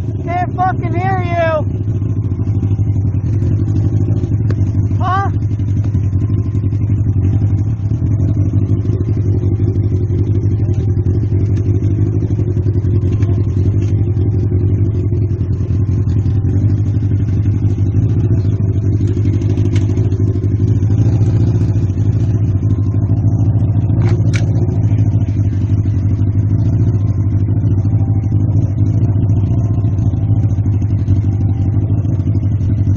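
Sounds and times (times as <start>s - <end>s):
motorcycle engine droning: 0.0s - 32.9s.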